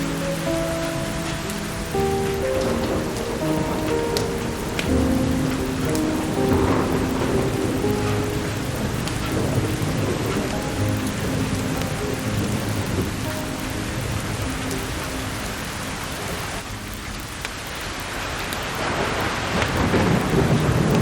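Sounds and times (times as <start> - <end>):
rolling thunder: 0.0 - 17.0, 18.2 - 21.0
heavy rain: 0.0 - 21.0.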